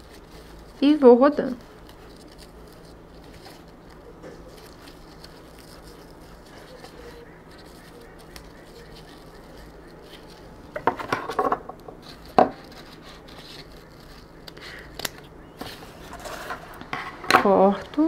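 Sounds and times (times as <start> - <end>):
ribbon rustling and scraping: 0.0 - 17.7.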